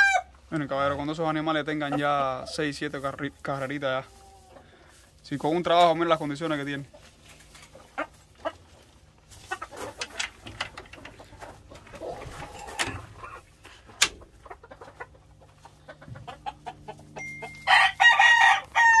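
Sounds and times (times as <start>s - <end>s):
roosters clucking: 0.0s - 19.0s.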